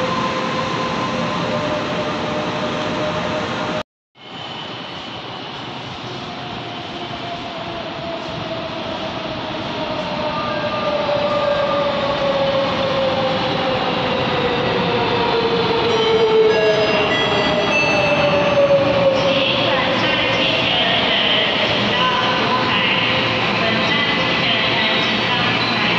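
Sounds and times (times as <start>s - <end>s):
train arriving: 0.0s - 25.9s.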